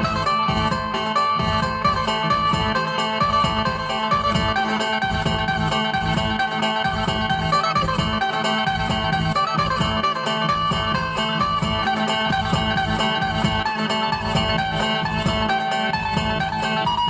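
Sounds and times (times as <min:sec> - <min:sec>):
plucked lute melody over drone: 0:00.0 - 0:17.0
steady beat: 0:00.0 - 0:17.0.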